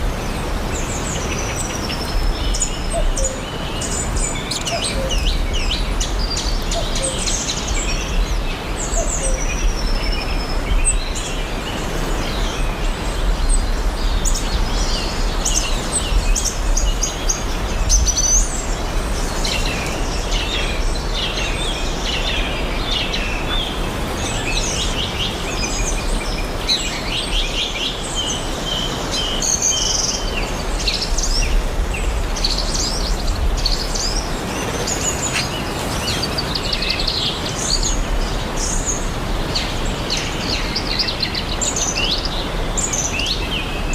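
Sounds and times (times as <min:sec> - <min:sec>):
small birds chirping and trilling: 0:00.0 - 0:43.9.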